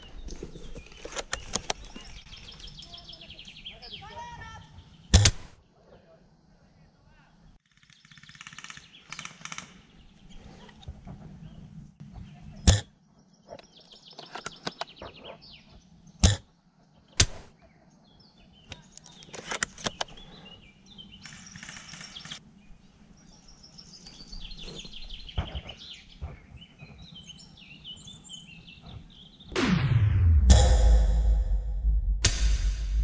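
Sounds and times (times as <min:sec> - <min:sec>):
small birds chirping: 0:00.0 - 0:29.6.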